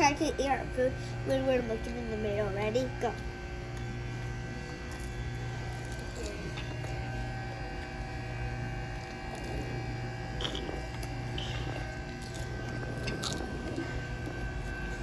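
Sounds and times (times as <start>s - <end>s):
electrical hum of equipment: 0.0s - 15.0s.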